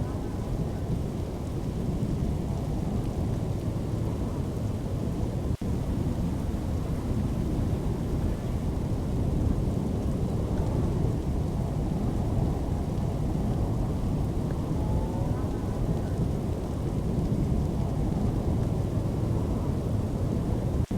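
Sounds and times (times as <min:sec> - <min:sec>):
rain: 0:00.0 - 0:20.9
storm wind: 0:00.0 - 0:20.9.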